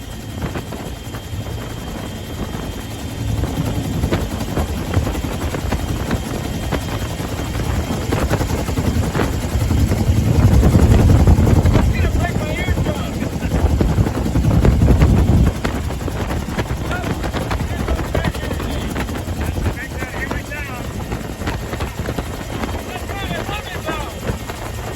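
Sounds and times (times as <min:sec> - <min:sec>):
helicopter rotor beating: 0:00.0 - 0:24.9
turbine engine whine: 0:00.0 - 0:24.9.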